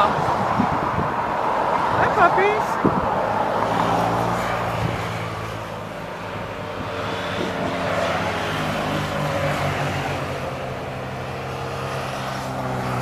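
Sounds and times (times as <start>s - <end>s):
motorcycle engines running: 1.9s - 13.0s.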